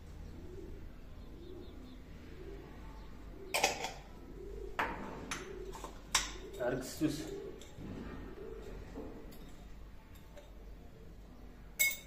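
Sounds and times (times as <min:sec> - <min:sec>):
pigeons cooing: 0:00.0 - 0:11.5.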